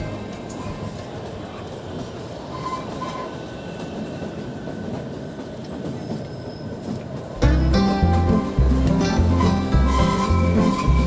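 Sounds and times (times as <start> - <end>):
train wheels rolling on track: 0.0 - 11.0.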